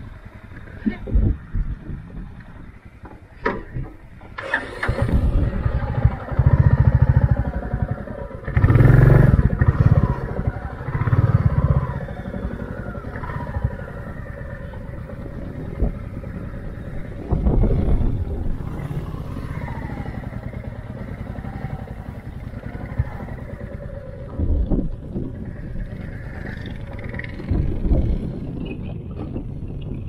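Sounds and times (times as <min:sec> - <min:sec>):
motorcycle engine revving: 0:04.2 - 0:30.0.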